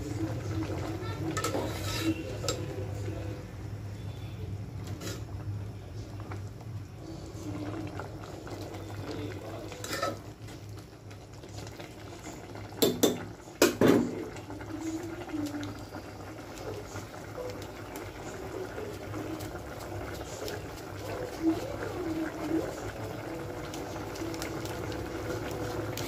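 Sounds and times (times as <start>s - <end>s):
sauce boiling and bubbling: 0.0s - 26.0s.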